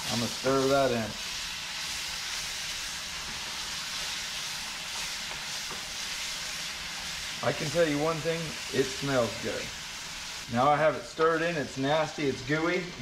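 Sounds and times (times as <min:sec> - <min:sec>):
onions sizzling in a skillet: 0:00.0 - 0:13.0.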